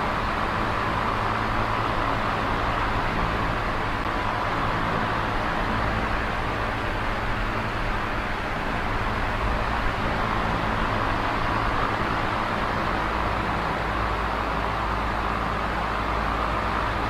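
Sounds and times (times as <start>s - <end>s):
electric fan air rush: 0.0s - 17.0s
fan motor hum: 0.0s - 17.0s.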